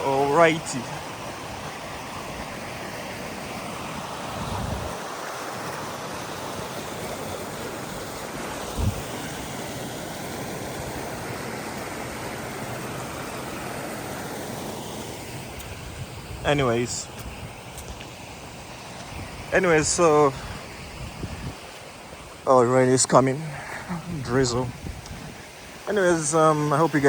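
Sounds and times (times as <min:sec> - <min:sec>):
stream rushing: 0:00.0 - 0:27.0.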